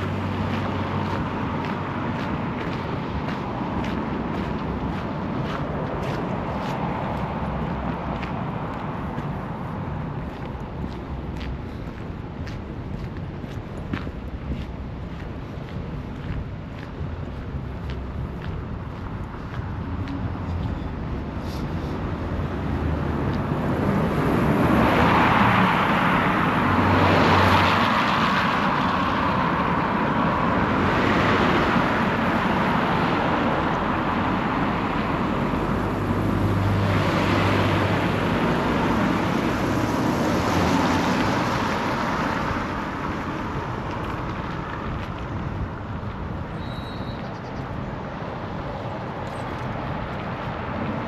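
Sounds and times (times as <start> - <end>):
cars passing on street: 0.0 - 51.0.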